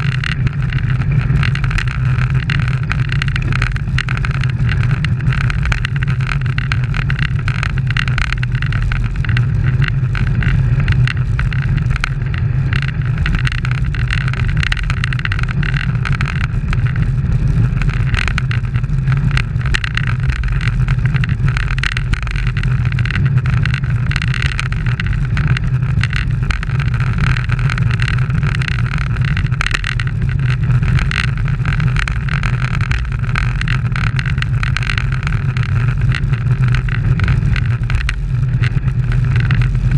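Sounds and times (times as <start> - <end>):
bicycle road noise: 0.0 - 39.9
wind rumble: 0.0 - 39.9.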